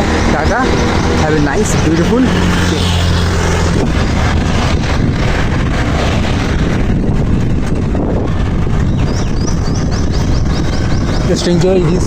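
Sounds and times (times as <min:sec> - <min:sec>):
vehicle road noise: 0:00.0 - 0:12.0
wind on microphone: 0:00.0 - 0:12.0.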